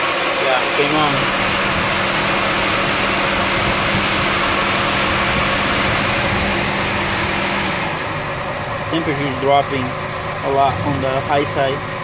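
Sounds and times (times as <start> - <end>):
car engine running: 0.0 - 12.0
cooling fan whooshing hum: 0.0 - 12.0.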